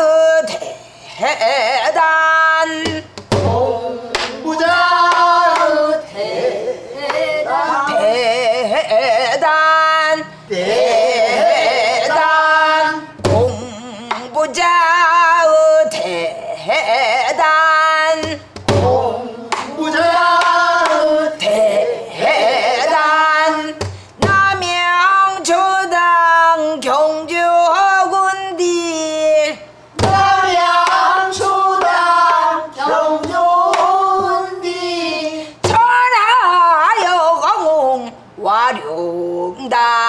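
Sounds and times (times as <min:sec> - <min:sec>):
woman singing: 0:00.0 - 0:40.0.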